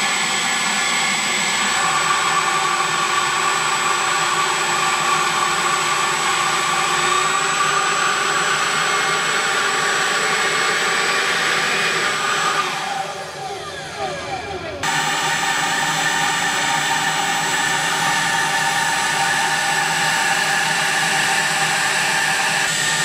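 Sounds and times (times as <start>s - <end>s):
motor whining at high speed: 0.0s - 23.0s.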